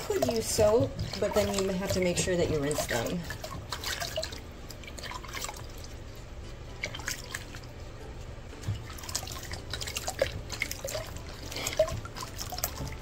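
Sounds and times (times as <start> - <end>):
water splashing in a basin: 0.0 - 7.8, 8.6 - 13.0.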